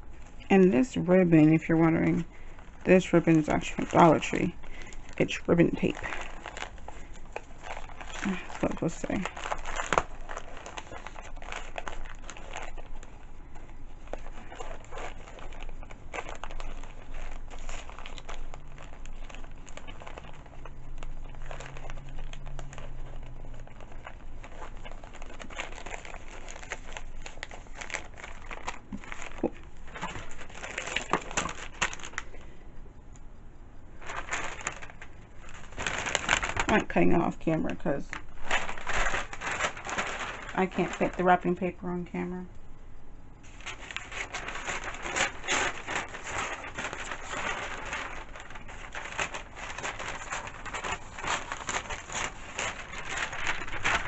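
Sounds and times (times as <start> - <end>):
wrapping paper crinkling: 0.0 - 32.7, 33.9 - 42.4, 43.4 - 54.0.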